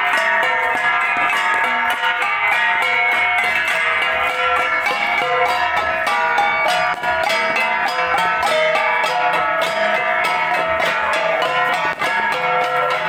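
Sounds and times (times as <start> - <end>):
gong ensemble playing: 0.0 - 13.0.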